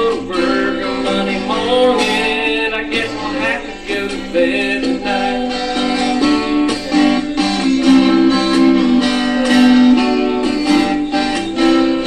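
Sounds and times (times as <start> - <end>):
country guitar strumming: 0.0 - 12.0.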